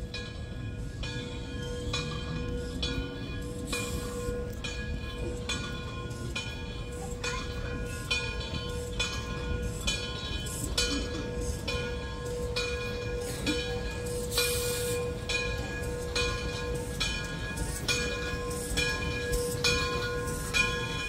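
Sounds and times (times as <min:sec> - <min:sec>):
locomotive bell ringing: 0:00.0 - 0:21.0
low rumble of train: 0:00.0 - 0:21.0.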